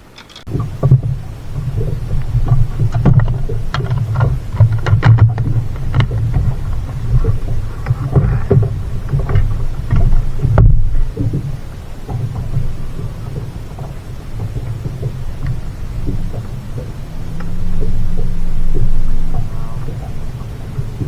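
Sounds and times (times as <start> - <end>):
boat engine low rumble: 0.0 - 21.0.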